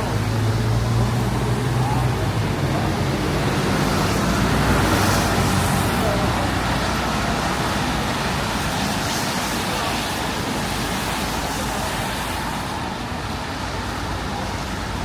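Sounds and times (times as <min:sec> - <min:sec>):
faint voices of passers-by: 0:00.0 - 0:15.0
traffic noise: 0:00.0 - 0:15.0.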